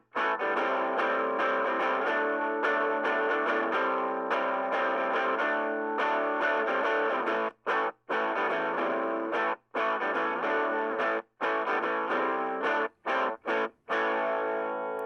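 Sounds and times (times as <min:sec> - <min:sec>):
overdriven electric guitar chords: 0:00.0 - 0:15.0.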